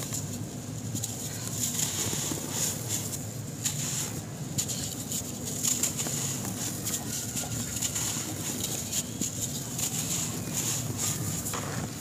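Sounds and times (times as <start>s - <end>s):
dry cement lumps crunching in hands: 0.0s - 12.0s.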